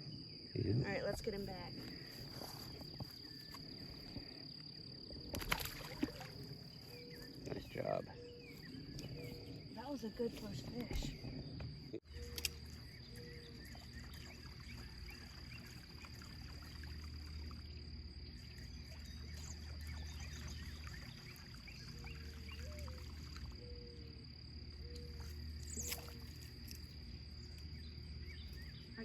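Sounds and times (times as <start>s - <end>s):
high insect buzz: 0.0s - 29.0s.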